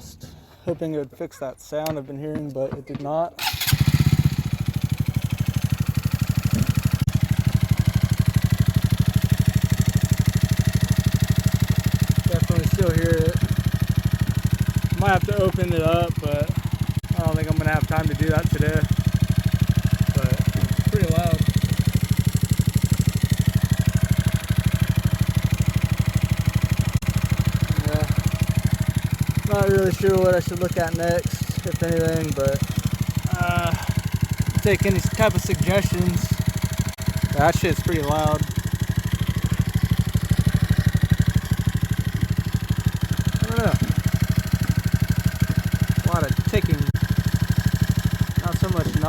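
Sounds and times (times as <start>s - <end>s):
loud engine ticking: 3.4s - 49.0s
motorcycle engine idling: 3.4s - 49.0s.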